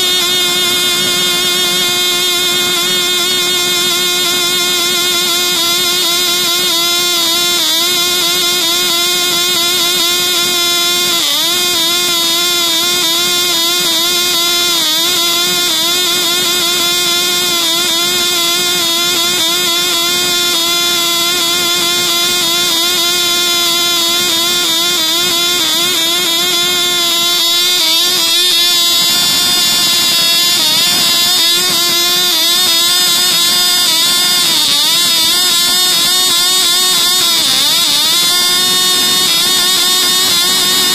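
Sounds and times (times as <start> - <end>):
miniature engine high-pitched whine: 0.0 - 40.9.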